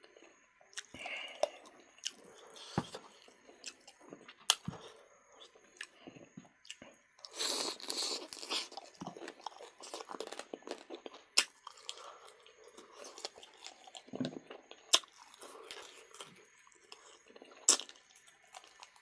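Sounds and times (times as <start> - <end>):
chewing and crunching meat: 0.0 - 19.0.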